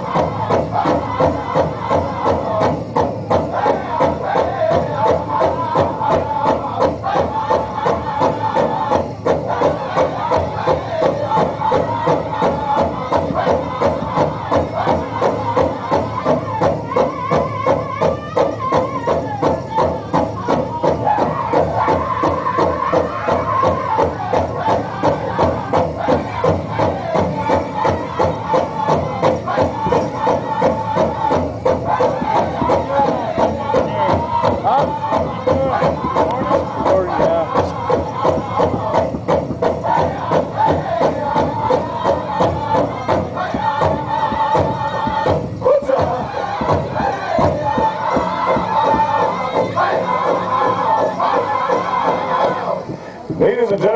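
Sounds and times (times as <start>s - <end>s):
high-pitched group singing: 0.0s - 53.3s
big drum beating: 0.0s - 53.9s
crowd noise: 0.0s - 53.9s.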